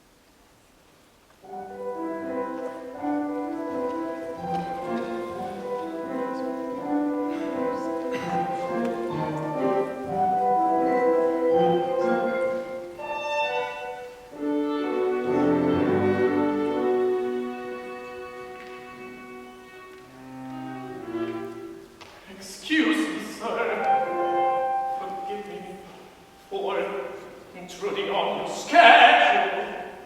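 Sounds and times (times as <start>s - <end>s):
orchestral music: 1.4s - 22.0s, 22.6s - 30.0s.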